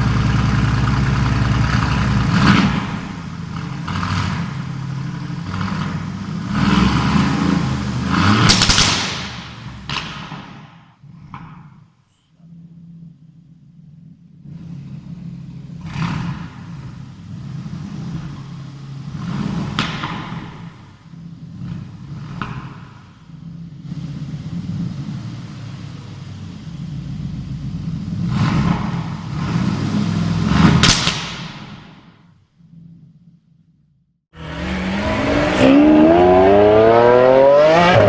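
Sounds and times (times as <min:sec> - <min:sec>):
car engine revving: 0:00.0 - 0:38.0
exhaust crackles: 0:00.0 - 0:38.0.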